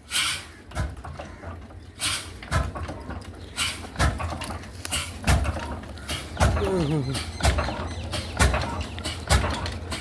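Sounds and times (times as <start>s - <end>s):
diesel engine starting unevenly: 0.0s - 10.0s.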